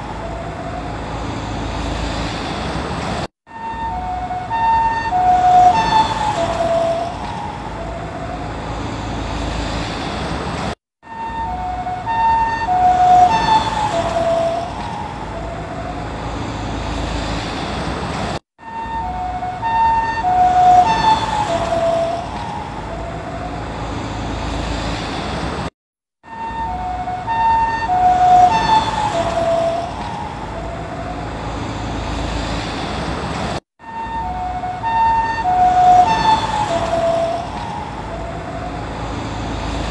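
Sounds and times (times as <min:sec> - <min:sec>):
ambulance two-tone siren passing: 0:00.0 - 0:02.5, 0:03.5 - 0:09.9, 0:11.0 - 0:17.6, 0:18.6 - 0:25.0, 0:26.2 - 0:32.6, 0:33.8 - 0:39.9
passing vehicle road noise: 0:00.0 - 0:25.7, 0:26.3 - 0:39.9.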